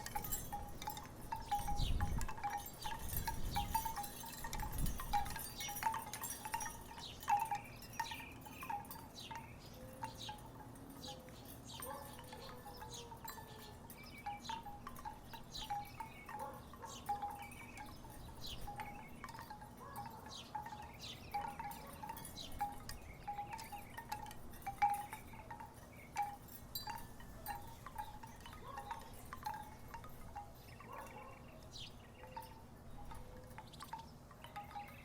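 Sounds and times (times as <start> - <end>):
wooden wind chimes clacking: 0.0 - 35.0.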